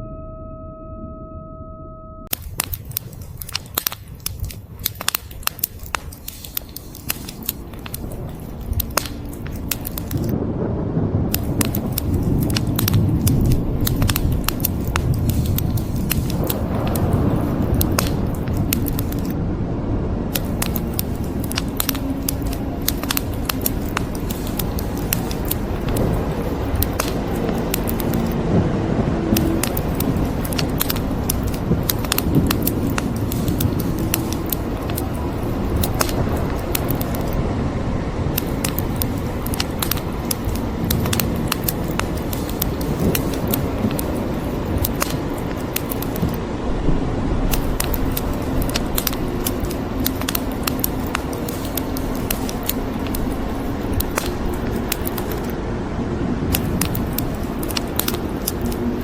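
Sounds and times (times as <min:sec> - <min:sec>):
wood fire crackling and popping: 0:02.3 - 0:10.5, 0:11.1 - 0:19.5, 0:20.2 - 0:59.0
low rumble of rain: 0:02.3 - 0:59.0.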